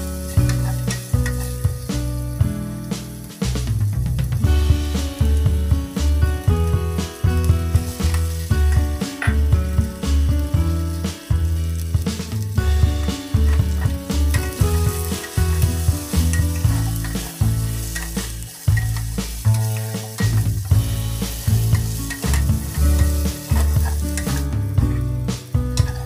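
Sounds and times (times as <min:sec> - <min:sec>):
vegetables sizzling in pot: 0:00.0 - 0:26.0.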